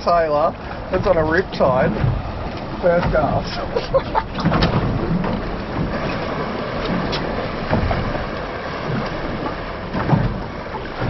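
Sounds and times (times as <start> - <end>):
sea washing around boat: 0.0 - 11.0
wind buffeting microphone: 0.0 - 11.0.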